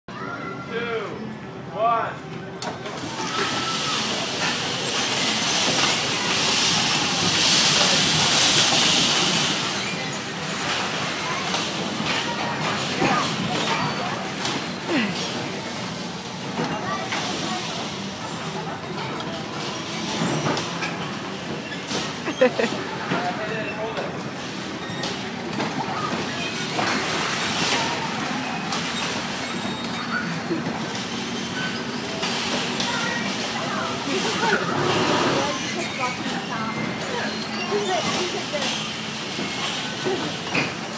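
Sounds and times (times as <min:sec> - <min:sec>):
bumper cars hissing and rumbling: 0:01.2 - 0:40.9.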